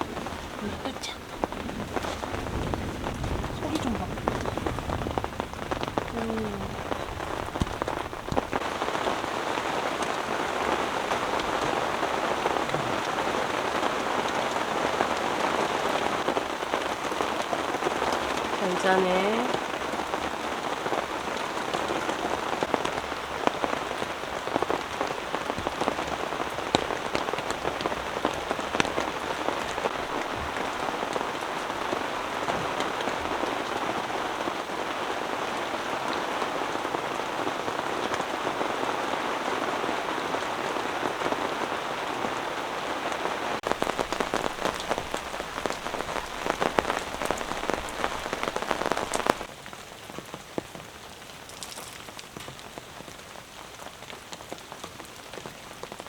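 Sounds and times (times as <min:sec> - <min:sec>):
heavy raindrops ticking: 0:00.0 - 0:41.3, 0:42.7 - 0:49.5, 0:51.3 - 0:53.0
rain pattering on a tent: 0:00.0 - 0:56.0.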